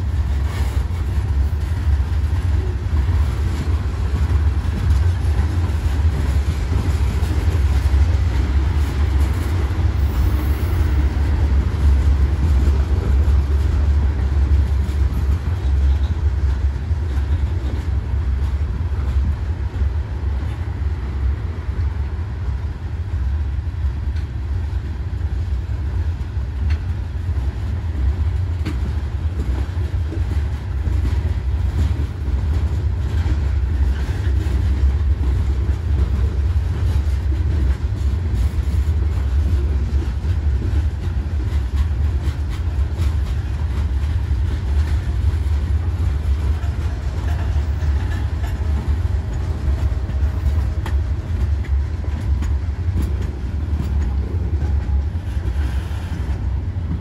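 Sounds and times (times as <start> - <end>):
steel train wheels rumbling on rails: 0.0 - 57.0.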